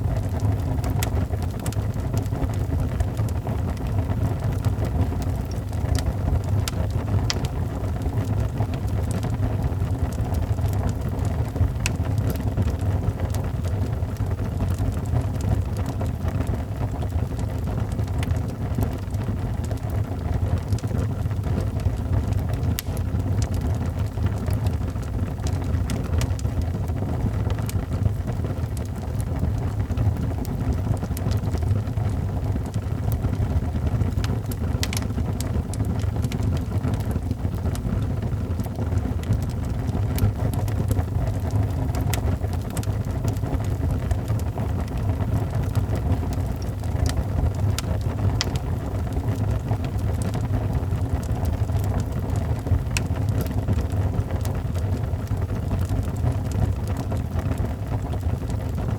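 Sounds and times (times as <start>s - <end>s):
fire crackling and popping: 0.0s - 58.9s
fire rumbling: 0.0s - 58.9s.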